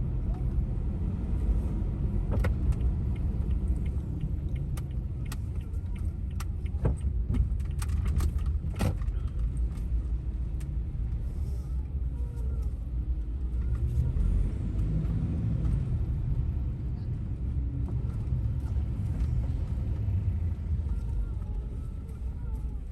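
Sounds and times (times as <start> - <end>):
van rumbling on road: 0.0 - 22.9.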